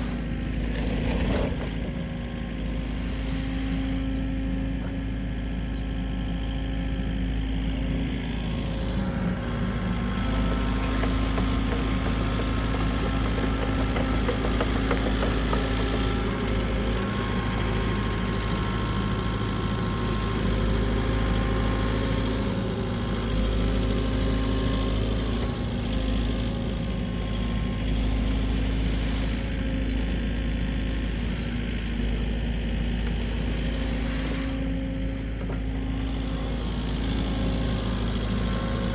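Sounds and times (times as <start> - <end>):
snow-clearing machine engine running: 0.0 - 38.9.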